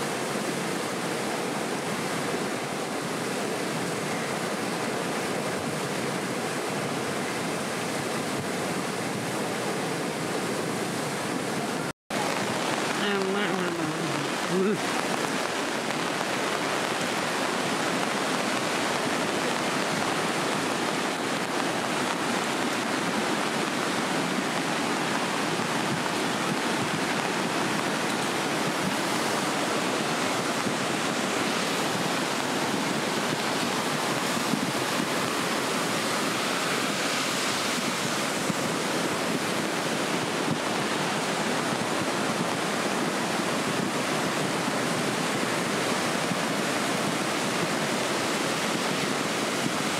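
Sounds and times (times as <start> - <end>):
flooded river rushing: 0.0 - 49.9.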